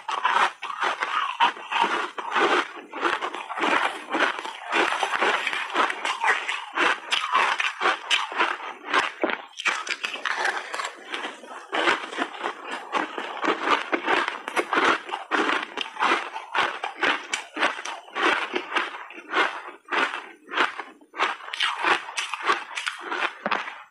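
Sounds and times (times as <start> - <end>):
crunching and chewing ice: 0.0 - 23.9.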